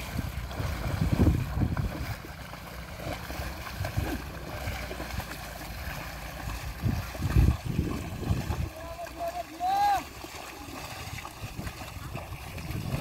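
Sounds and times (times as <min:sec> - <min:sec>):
wind rumble on microphone: 0:00.0 - 0:09.4, 0:10.0 - 0:13.0
water sloshing and splashing: 0:00.0 - 0:13.0.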